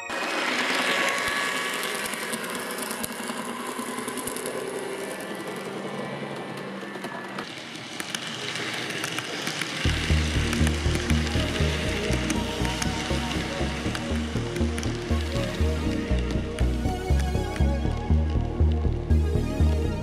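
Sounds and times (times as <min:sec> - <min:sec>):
model train motors whirring: 0:00.0 - 0:20.0.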